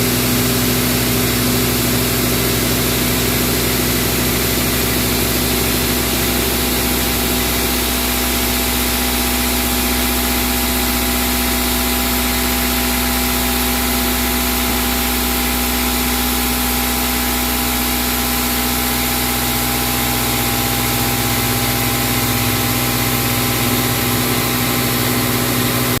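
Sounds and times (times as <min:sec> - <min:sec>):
milling cutter machining drone: 0:00.0 - 0:26.0.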